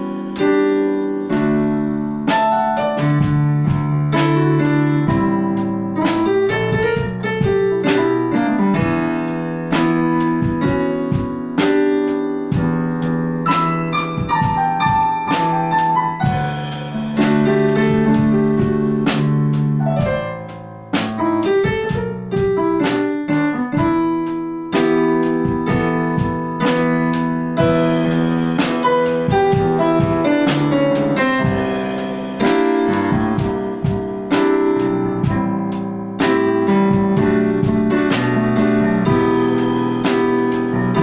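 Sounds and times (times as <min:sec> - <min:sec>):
piano chords on keyboard: 0:00.0 - 0:41.0.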